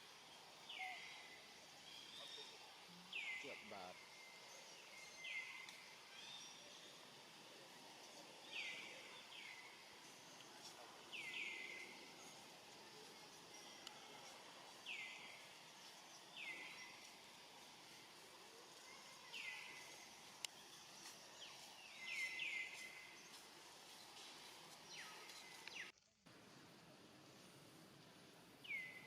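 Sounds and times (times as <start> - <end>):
faint steady background hiss: 0.0 - 29.0.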